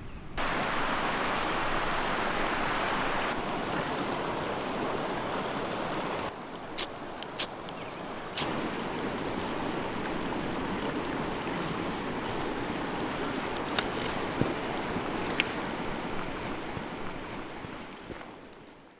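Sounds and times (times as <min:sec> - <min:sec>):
wind: 0:00.0 - 0:18.9
water lapping: 0:00.4 - 0:18.9.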